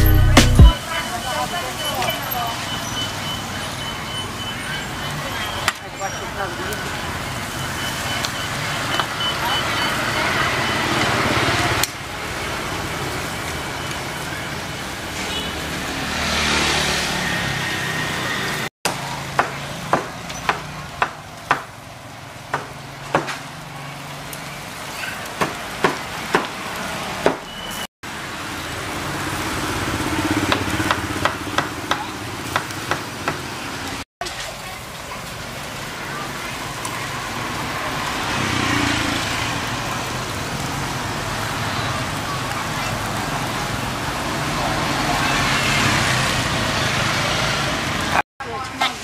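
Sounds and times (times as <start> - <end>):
charcoal grill crackling: 0.0 - 49.0
passing traffic: 0.0 - 49.0.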